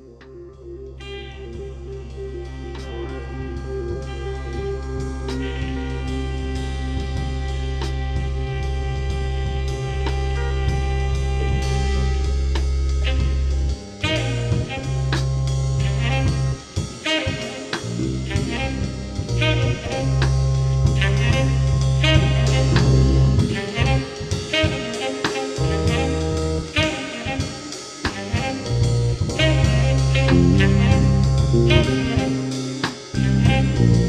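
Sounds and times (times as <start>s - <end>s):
lo-fi music with drum beat: 0.0s - 34.0s.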